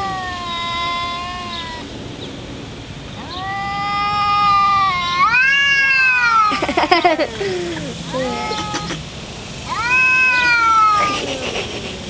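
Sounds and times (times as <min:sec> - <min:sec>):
cats yowling: 0:00.0 - 0:01.9, 0:03.2 - 0:12.0.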